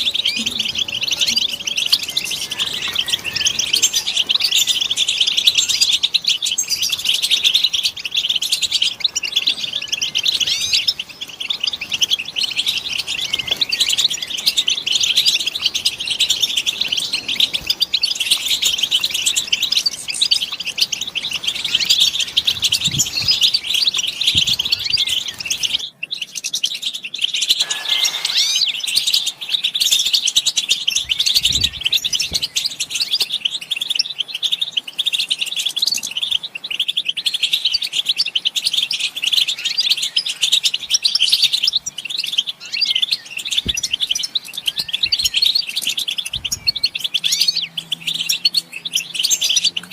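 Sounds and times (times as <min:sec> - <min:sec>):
flock of goldfinches twittering: 0:00.0 - 0:49.9.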